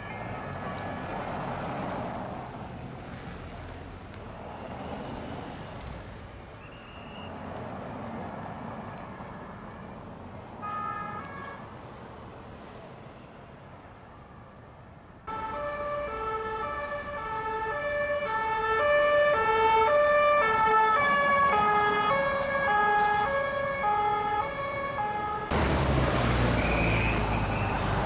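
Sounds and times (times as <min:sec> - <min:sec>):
vehicles driving past: 0:00.0 - 0:28.0.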